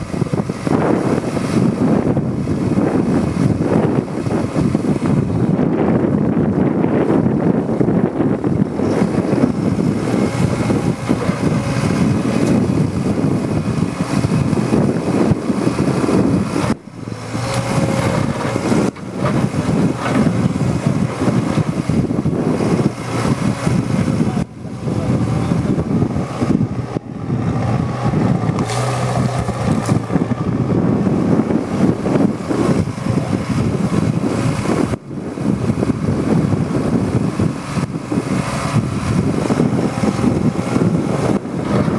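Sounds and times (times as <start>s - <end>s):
excavator engine drone: 0.0s - 41.9s
hydraulic working noise: 0.0s - 41.9s.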